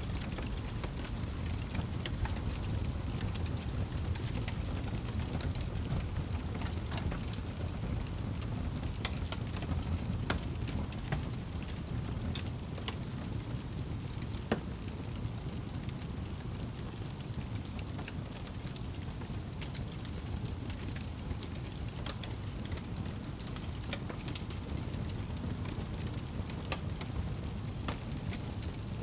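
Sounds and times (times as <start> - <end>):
burning wood popping: 0.0 - 29.0
steady rain: 0.0 - 29.0.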